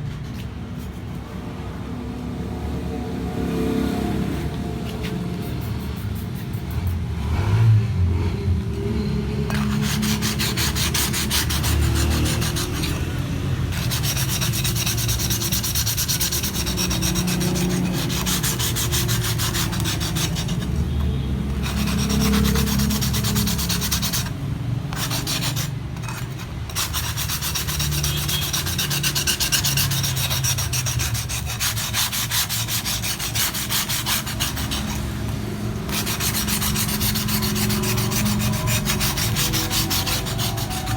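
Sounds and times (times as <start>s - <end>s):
gritty rubbing and scraping: 0.0s - 1.3s, 4.4s - 7.1s, 9.4s - 40.9s.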